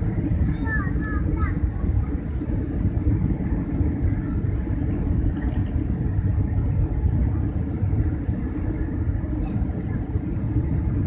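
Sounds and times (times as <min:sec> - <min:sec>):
jet engines rumbling: 0:00.0 - 0:11.0
rushing air in cabin: 0:00.0 - 0:11.0.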